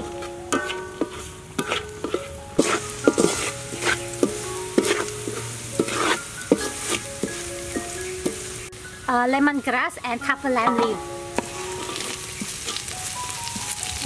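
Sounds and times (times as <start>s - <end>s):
spatula scraping metal wok: 0.0s - 8.7s, 10.6s - 13.7s
light sizzle: 0.0s - 14.0s.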